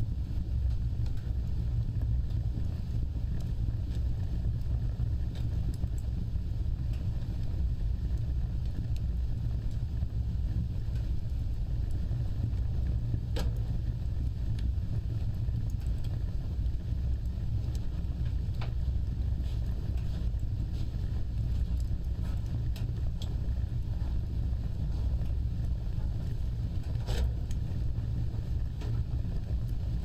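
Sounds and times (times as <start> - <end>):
wood fire roaring and crackling: 0.0 - 30.0.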